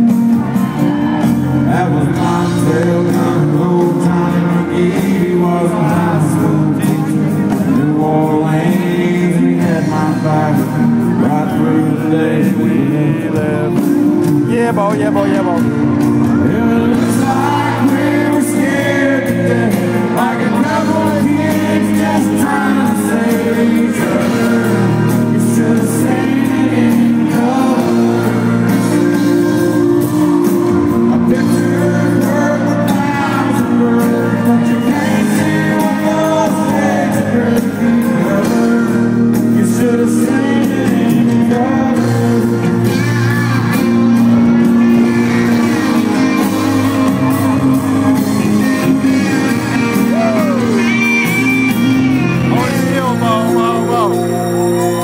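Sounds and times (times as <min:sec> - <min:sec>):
man singing: 0:00.0 - 0:51.1, 0:51.7 - 0:55.0
live country band: 0:00.0 - 0:55.0.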